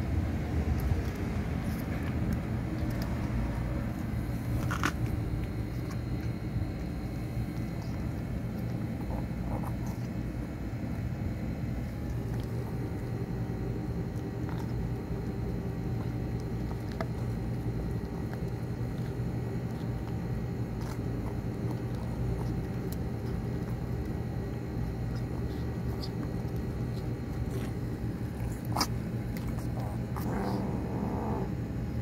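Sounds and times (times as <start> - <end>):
kittens chewing: 0.0 - 32.0
low hum: 0.0 - 32.0.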